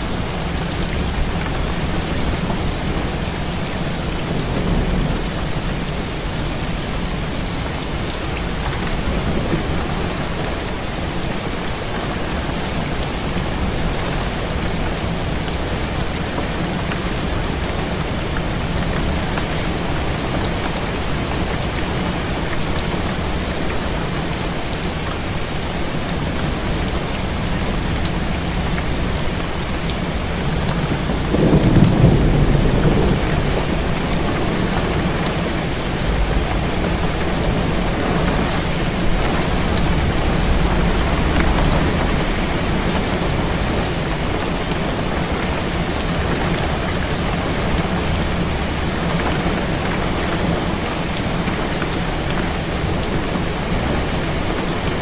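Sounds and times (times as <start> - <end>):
heavy rain on a window: 0.0 - 55.0.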